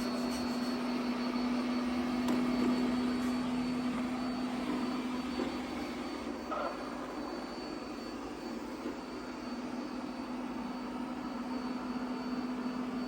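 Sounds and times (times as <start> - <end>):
robot vacuum motor hum: 0.0 - 13.0.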